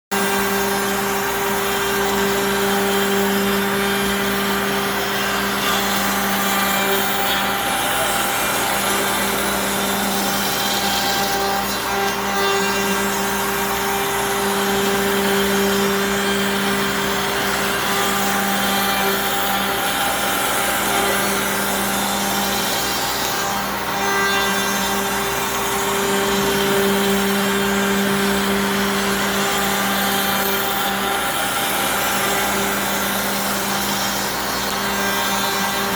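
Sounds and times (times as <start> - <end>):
cnc machine cutting: 0.1 - 35.9.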